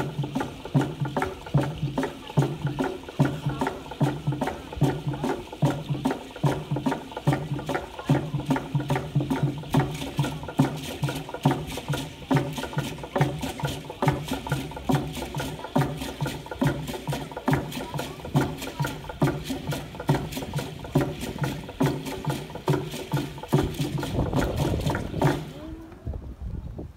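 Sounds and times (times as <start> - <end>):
steady drum beat: 0.0 - 26.0.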